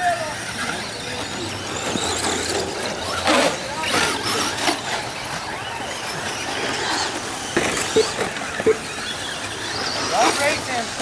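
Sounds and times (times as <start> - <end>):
radio-controlled cars on dirt: 0.0 - 11.0.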